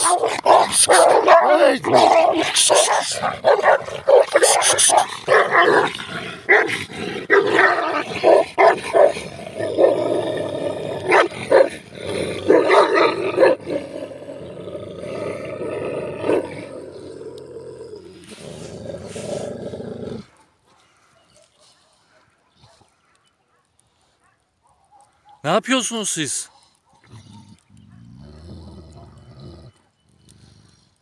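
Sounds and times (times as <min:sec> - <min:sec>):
dogs fighting growling and barking: 0:00.0 - 0:25.4, 0:26.6 - 0:31.0.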